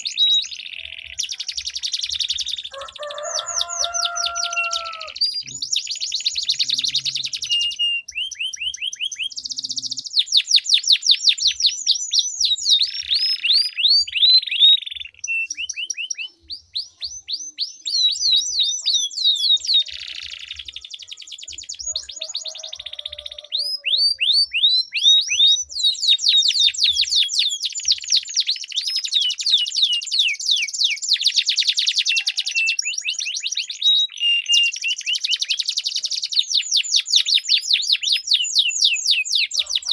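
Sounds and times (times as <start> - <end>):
canaries singing rolling trills: 0.0 - 39.9.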